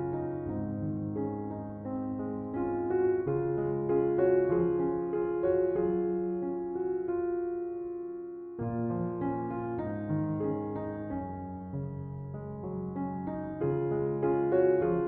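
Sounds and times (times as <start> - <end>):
slow calm piano music: 0.0 - 15.0.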